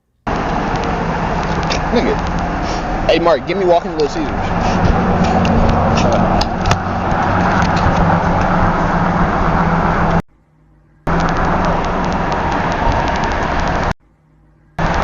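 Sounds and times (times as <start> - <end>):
road rumble: 0.2 - 10.2, 11.0 - 15.0
car engine hum: 0.3 - 10.2, 10.8 - 15.0.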